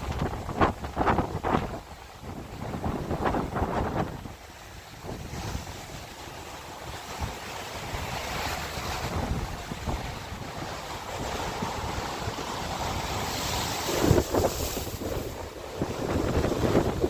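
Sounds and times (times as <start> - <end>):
lake waves breaking on shore: 0.0 - 17.0
wind buffeting microphone: 0.0 - 17.0.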